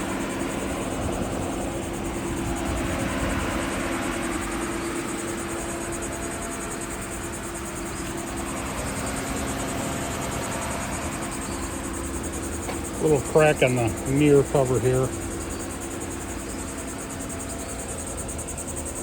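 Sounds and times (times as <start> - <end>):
insects trilling: 0.0 - 19.0
low hum and rumble: 0.0 - 19.0.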